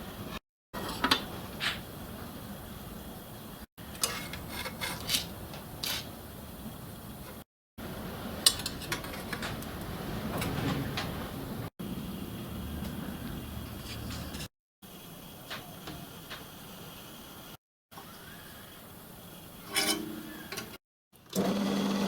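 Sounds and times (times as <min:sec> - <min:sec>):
low workshop background: 0:00.0 - 0:22.0.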